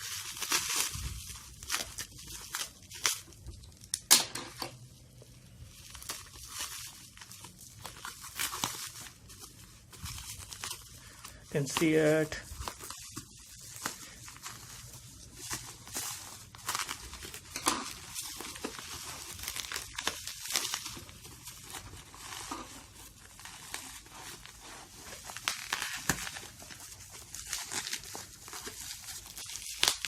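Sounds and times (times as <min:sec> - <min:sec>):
packaging crinkling and tearing: 0:00.0 - 0:30.0.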